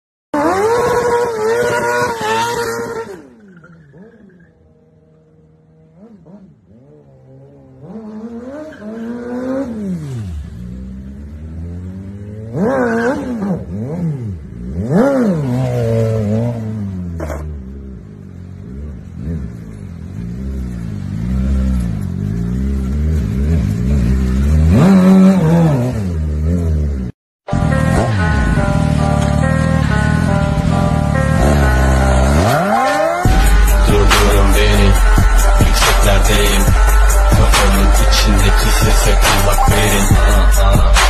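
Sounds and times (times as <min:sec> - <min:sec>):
motorcycle engine revving: 0:00.3 - 0:41.0.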